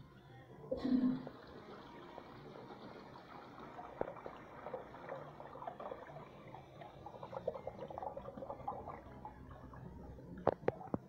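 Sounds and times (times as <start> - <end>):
water trickling in urinal: 1.1 - 11.0.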